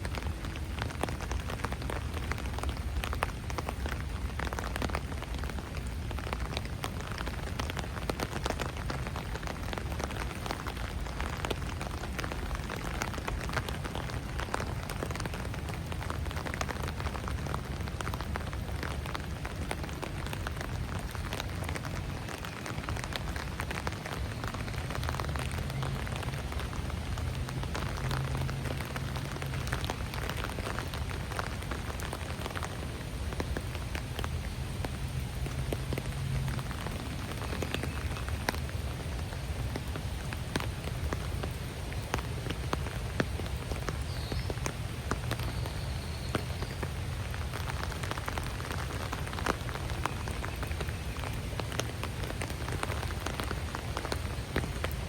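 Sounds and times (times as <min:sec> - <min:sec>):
steady rain on foliage: 0:00.0 - 0:55.0.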